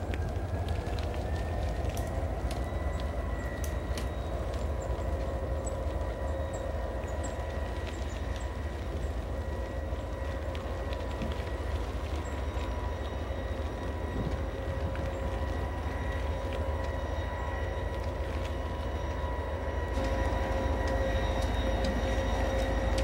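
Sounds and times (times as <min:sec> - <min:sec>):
train rumbling on tracks: 0:00.0 - 0:23.0.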